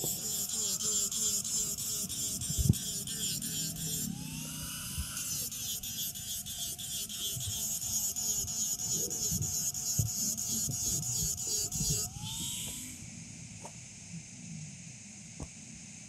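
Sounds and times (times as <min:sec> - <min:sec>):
drilling rig whining: 0:00.0 - 0:13.0.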